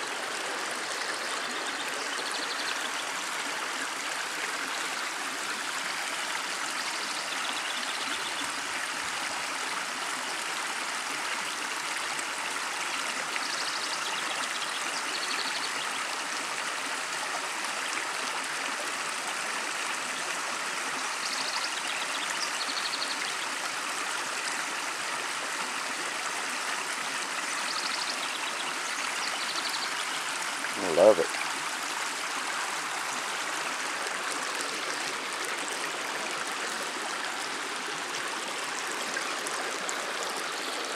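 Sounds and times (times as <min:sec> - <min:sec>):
creek water rushing over rocks: 0:00.0 - 0:40.9.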